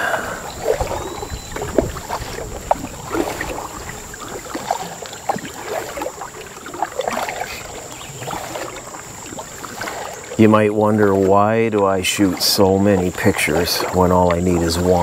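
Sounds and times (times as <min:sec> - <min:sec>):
paddle splashing in water: 0:00.0 - 0:15.0
water gurgling against hull: 0:00.0 - 0:15.0.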